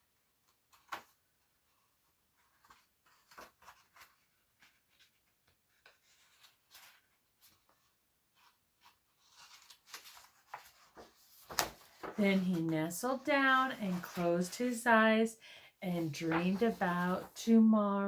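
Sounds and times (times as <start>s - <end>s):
paper book rustling: 0.3s - 15.1s, 15.9s - 17.7s.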